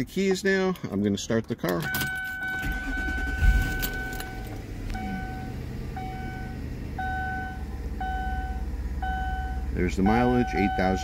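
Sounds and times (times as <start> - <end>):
car engine cranking and idling: 0.0 - 11.0
car warning chime beeps: 1.8 - 11.0.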